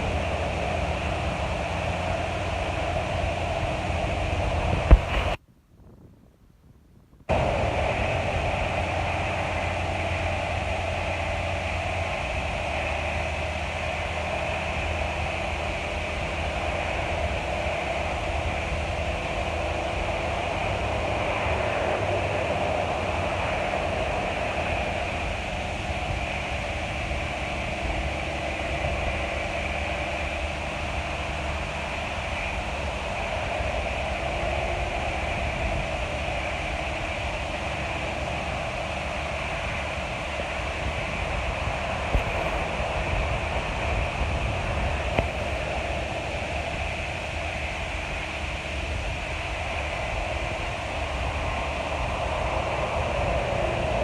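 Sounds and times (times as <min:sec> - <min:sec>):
combine harvester drone and hiss: 0:00.0 - 0:05.4, 0:07.3 - 0:54.0.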